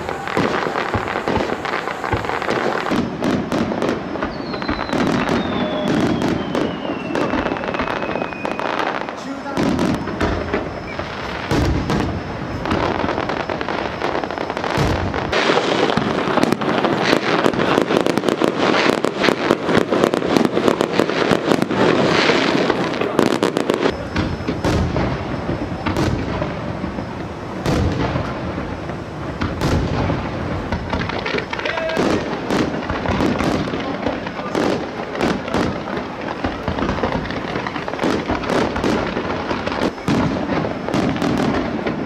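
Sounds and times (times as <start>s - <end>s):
firework shells bursting: 0.0s - 42.0s
fireworks crackling pops: 0.0s - 42.0s.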